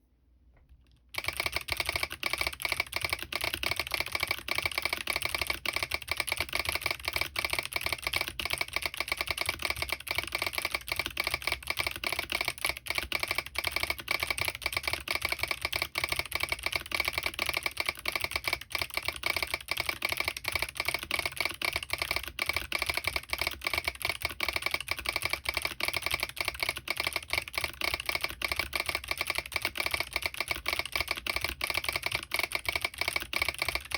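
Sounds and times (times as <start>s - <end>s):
mechanical keyboard typing clicks: 0.8s - 33.9s
keyboard click solenoid: 1.1s - 33.9s.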